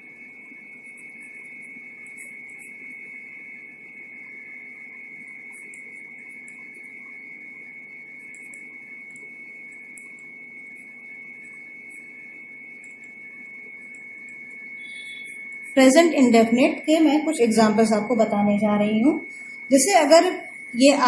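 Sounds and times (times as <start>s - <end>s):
high-pitched electrical whine: 0.0s - 21.0s.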